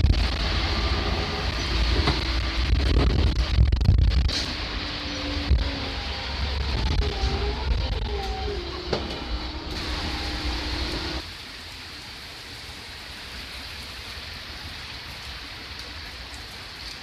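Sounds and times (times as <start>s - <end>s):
heavy rain pouring on road: 0.0s - 8.6s, 9.4s - 17.0s
vehicle engine and road rumble: 0.0s - 17.0s.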